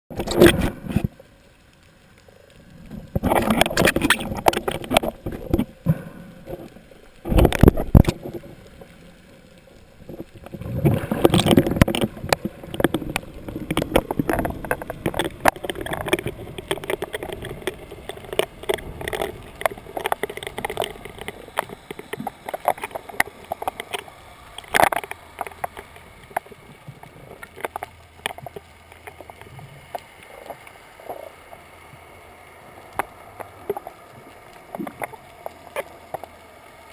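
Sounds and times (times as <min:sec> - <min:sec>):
water sloshing and rushing: 0:00.1 - 0:01.4, 0:02.5 - 0:36.9
underwater clicks and bubbles: 0:00.1 - 0:36.9.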